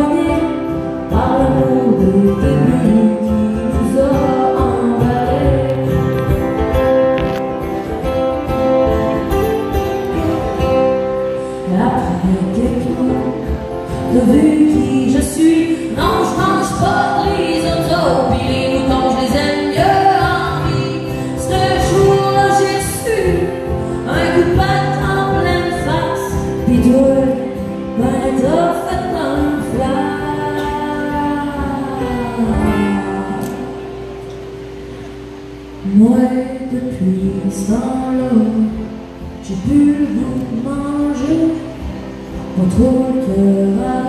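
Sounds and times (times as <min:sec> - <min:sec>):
woman singing: 0:00.0 - 0:06.5, 0:10.1 - 0:34.1, 0:35.8 - 0:44.0
acoustic guitars playing: 0:00.0 - 0:44.0.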